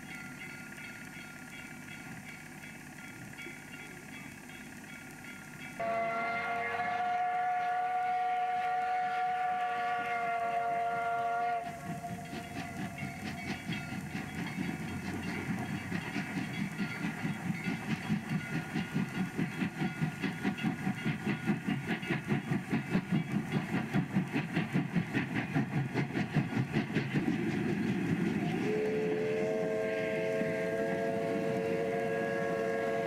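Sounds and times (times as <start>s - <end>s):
steam train passing: 0.0s - 33.0s.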